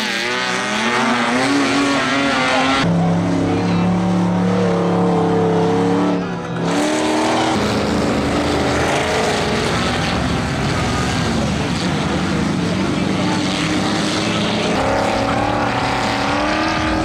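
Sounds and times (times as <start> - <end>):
racing engines at high revs: 0.0 - 17.0.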